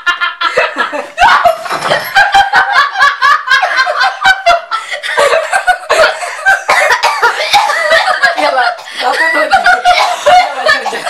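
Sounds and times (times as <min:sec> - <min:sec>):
people laughing loudly: 0:00.0 - 0:11.0.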